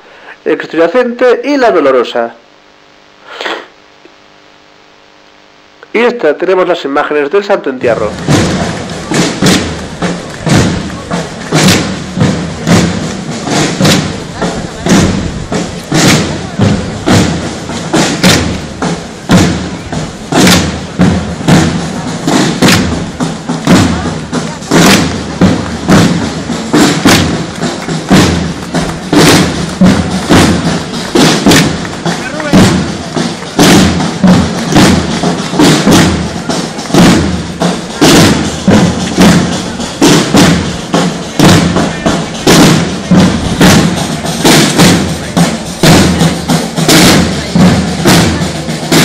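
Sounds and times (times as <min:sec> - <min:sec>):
drums beating slow march: 0:00.0 - 0:49.0.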